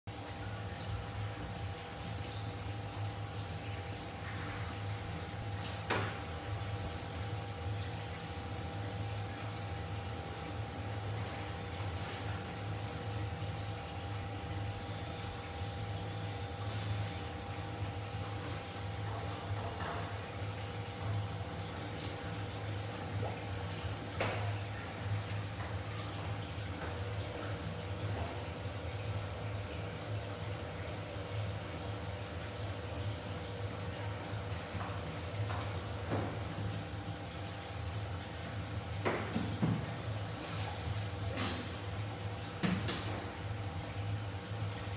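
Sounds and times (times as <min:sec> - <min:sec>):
low electrical hum: 0:00.1 - 0:44.9
water trickling and dripping: 0:00.1 - 0:44.9.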